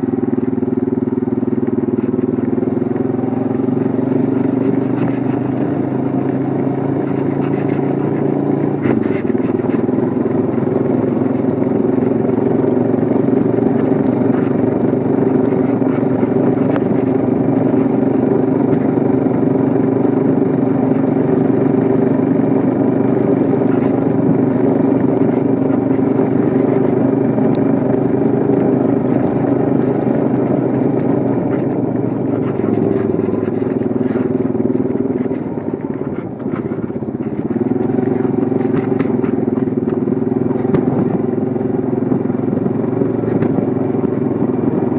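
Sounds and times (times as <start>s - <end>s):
engine humming: 0.0s - 44.9s.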